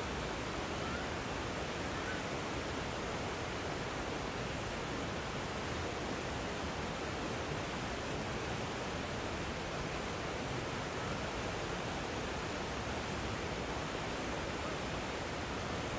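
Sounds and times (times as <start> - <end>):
flowing mountain water: 0.0 - 15.9.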